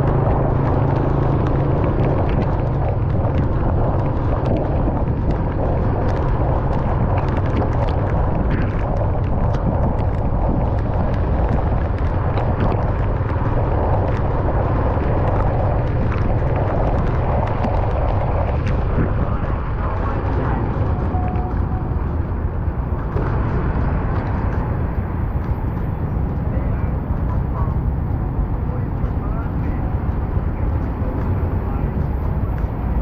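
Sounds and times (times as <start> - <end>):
raindrops tapping on car: 0.0 - 33.0
road and tyre rumble: 0.0 - 33.0.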